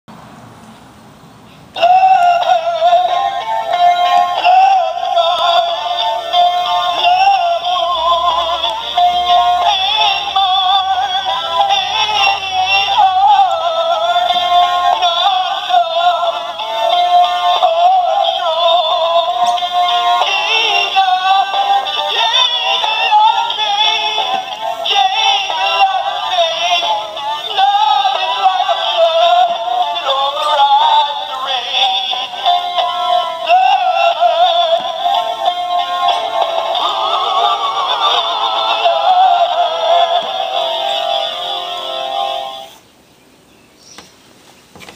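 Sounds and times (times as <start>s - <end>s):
toy singing through small speaker: 1.7s - 42.8s.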